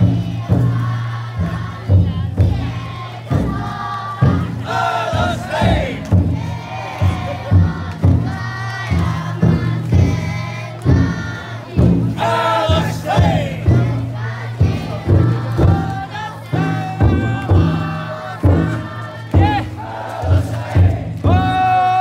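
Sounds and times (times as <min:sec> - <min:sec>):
large drum beating: 0:00.0 - 0:22.0
people chanting and shouting: 0:00.0 - 0:22.0.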